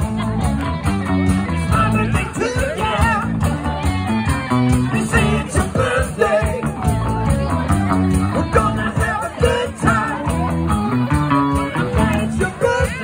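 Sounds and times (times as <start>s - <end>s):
live rock band: 0.0s - 13.0s
person singing: 1.4s - 13.0s.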